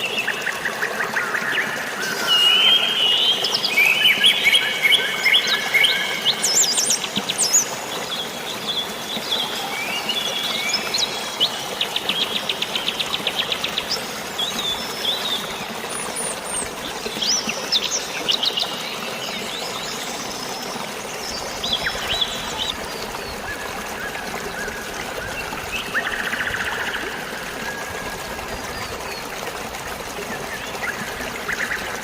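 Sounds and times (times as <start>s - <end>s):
birds chirping: 0.0s - 32.0s
rushing water: 0.0s - 32.0s.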